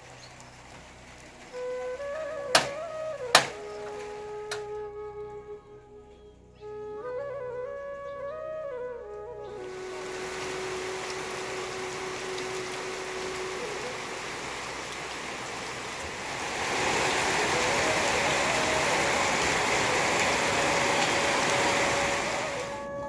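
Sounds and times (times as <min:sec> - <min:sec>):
rain falling: 0:00.0 - 0:06.0, 0:07.0 - 0:23.0.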